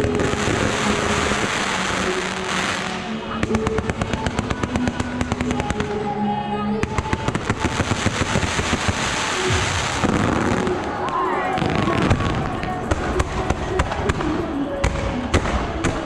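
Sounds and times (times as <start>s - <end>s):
fireworks bangs and crackles: 0.0s - 6.1s, 6.8s - 16.0s
music: 0.0s - 16.0s.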